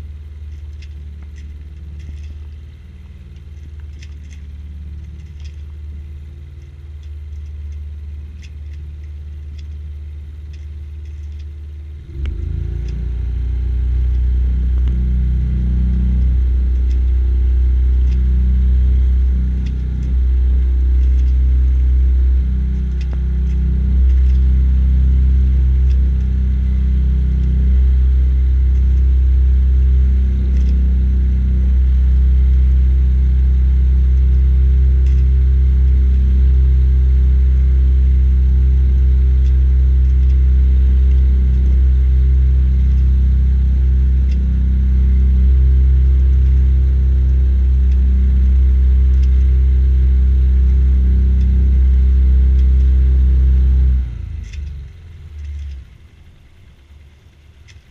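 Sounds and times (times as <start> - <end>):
boat engine droning: 0.0 - 57.9.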